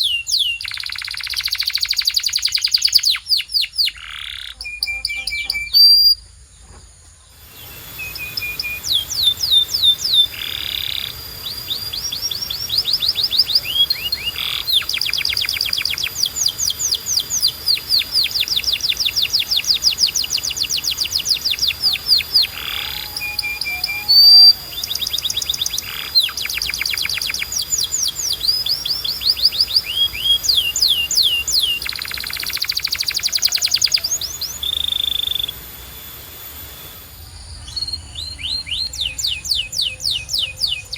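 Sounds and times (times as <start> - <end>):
canary singing trills: 0.0 - 6.5, 7.3 - 40.9.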